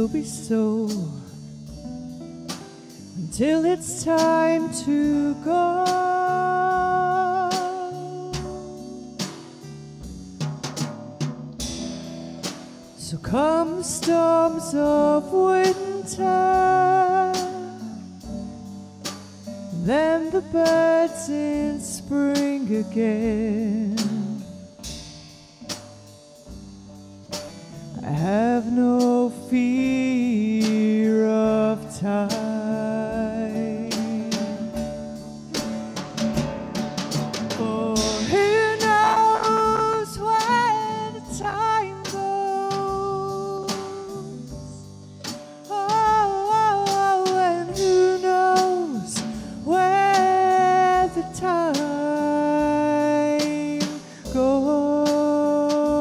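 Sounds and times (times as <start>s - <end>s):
slow band music: 0.0s - 56.0s.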